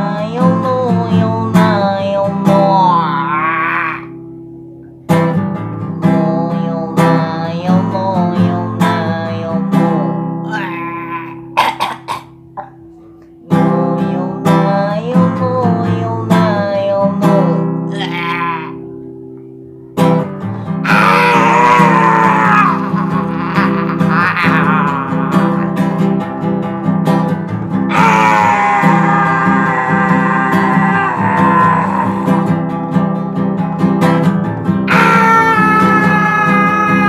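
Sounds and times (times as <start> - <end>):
person singing: 0.0 - 4.2, 5.8 - 11.6, 12.6 - 19.0, 20.4 - 26.4, 27.5 - 32.8, 34.8 - 37.0
acoustic guitar strumming: 0.0 - 37.0.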